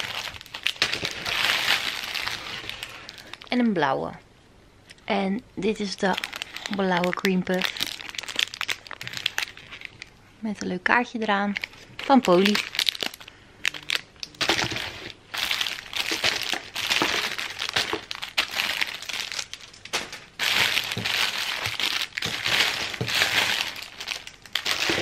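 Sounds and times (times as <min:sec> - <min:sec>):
cellophane bags crinkling: 0:00.0 - 0:03.6, 0:05.8 - 0:10.1, 0:11.3 - 0:25.0.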